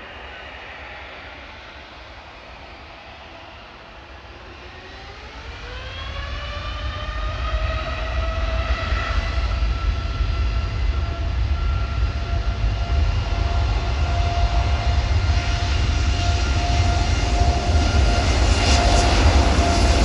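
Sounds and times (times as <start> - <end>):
jet engines spooling up: 0.0 - 20.0.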